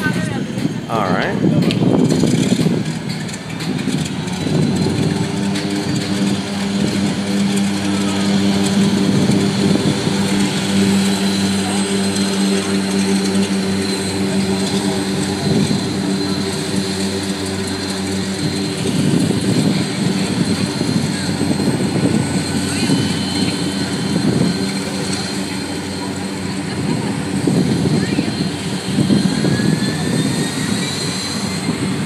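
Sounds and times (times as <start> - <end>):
propeller engine droning: 0.0 - 32.0.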